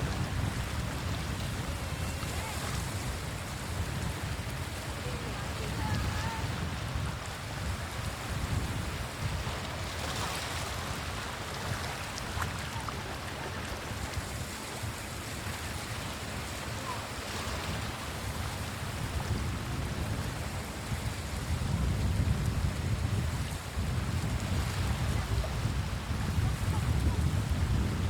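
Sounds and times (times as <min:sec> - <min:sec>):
surf washing onto beach: 0:00.0 - 0:28.0
wind buffeting microphone: 0:00.0 - 0:28.0.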